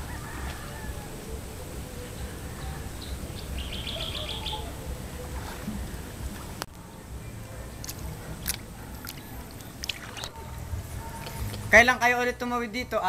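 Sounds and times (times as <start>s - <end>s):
bird chirping: 0.0s - 11.9s
steady low rumble: 0.0s - 13.0s.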